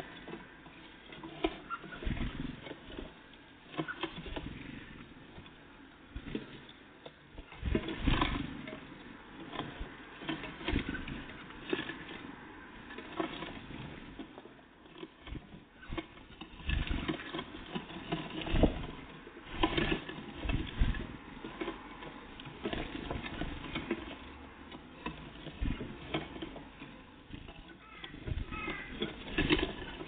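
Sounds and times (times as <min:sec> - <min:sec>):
birds hopping tapping and scratching: 0:00.0 - 0:30.0
small birds pecking at a feeder: 0:00.0 - 0:30.0.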